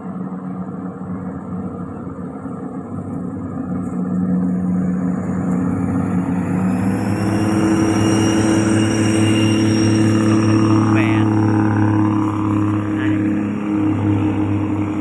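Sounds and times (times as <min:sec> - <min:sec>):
diesel railcar engines running: 0:00.0 - 0:15.0
steady high whine: 0:00.0 - 0:15.0.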